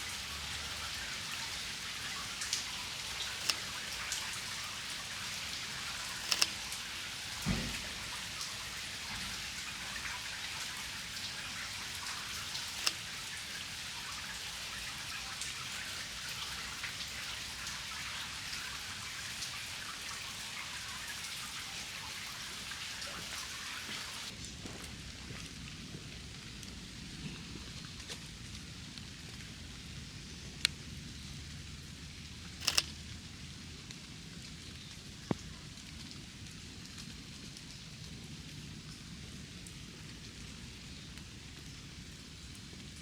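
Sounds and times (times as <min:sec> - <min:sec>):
raindrops ticking: 0:00.0 - 0:29.6, 0:30.6 - 0:43.0
steady rain falling: 0:00.0 - 0:43.0.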